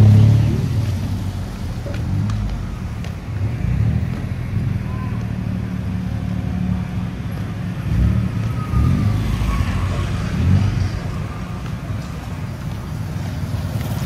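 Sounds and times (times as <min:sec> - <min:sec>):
vehicles passing: 0:00.0 - 0:14.0.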